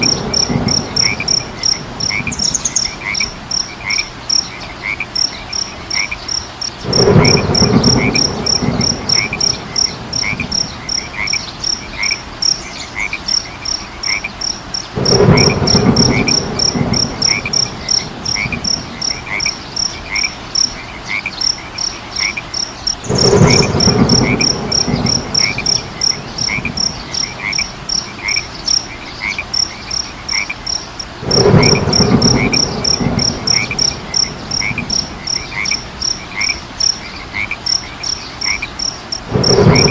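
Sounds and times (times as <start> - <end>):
low croaking: 0.0 - 6.2, 6.8 - 12.3, 13.0 - 21.4, 22.2 - 39.9
frogs and insects calling: 0.0 - 39.9.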